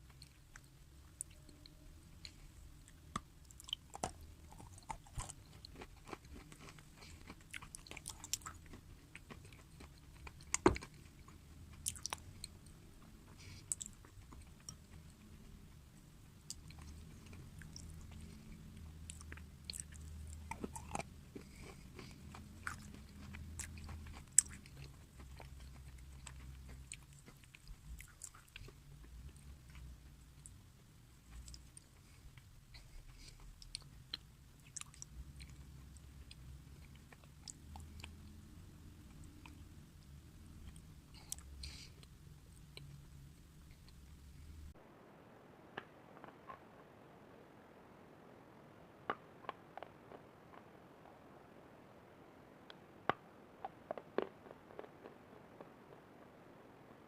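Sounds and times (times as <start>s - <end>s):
chewing crisp food: 0.0s - 44.1s, 52.7s - 57.0s.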